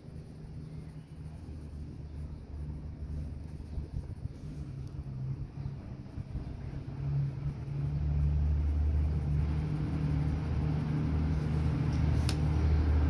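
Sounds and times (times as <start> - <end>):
low rumble and hum: 0.0 - 13.0
pencil scratching on paper: 0.0 - 13.0.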